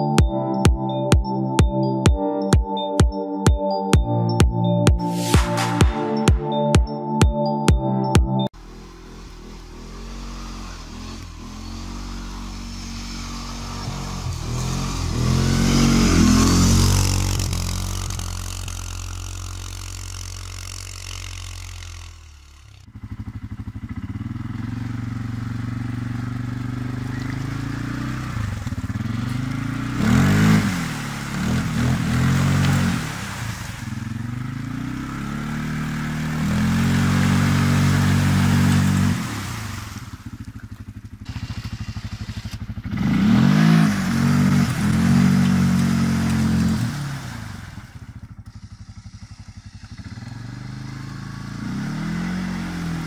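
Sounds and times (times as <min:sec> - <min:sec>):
quad engine revving: 0:08.6 - 0:53.0
water splashing around wheels: 0:08.6 - 0:53.0.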